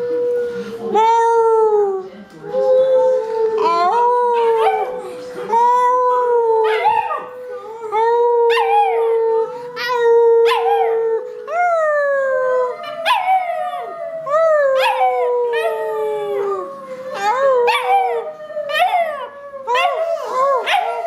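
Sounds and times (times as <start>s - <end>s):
puppy howling: 2.5s - 21.0s.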